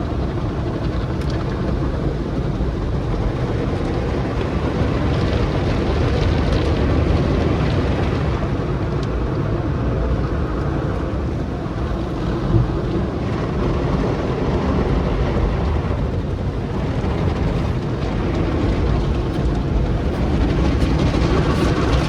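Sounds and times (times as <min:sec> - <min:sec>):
car wash rumbling: 0:00.0 - 0:22.0.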